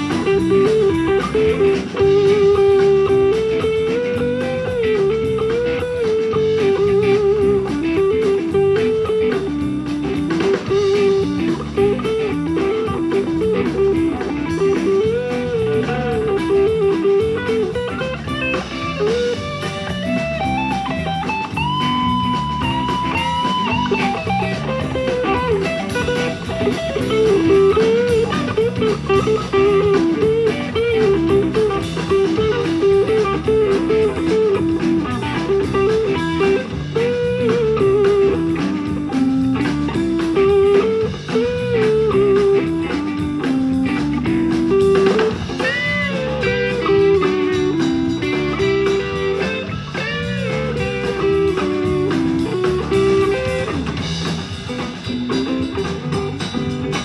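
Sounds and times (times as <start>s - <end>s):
bass and drum kit: 0.0s - 57.0s
electric guitars: 0.0s - 57.0s.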